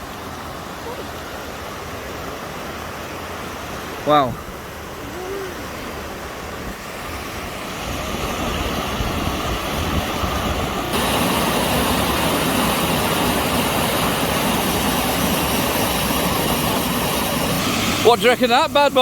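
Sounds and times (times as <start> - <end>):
waterfall rushing water: 0.0 - 19.0.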